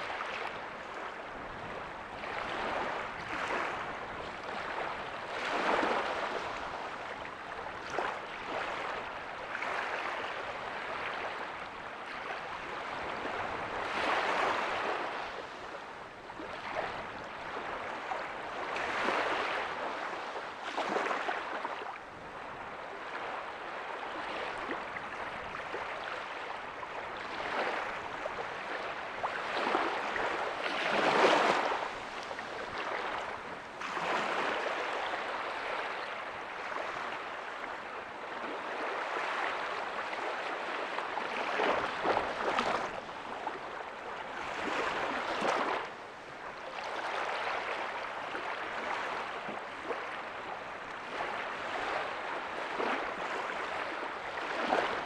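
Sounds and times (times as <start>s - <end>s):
small waves washing up beach: 0.0s - 55.0s.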